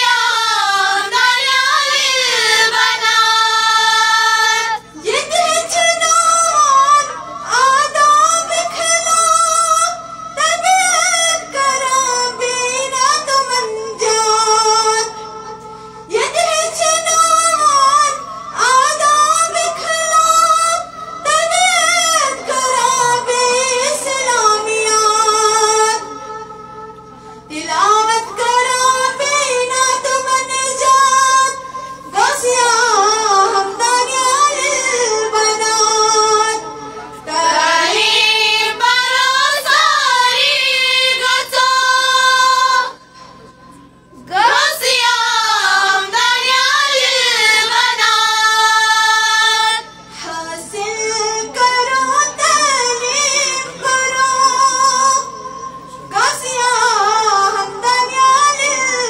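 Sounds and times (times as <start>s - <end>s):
woman singing devotional melody: 0.0s - 43.2s, 43.8s - 59.0s.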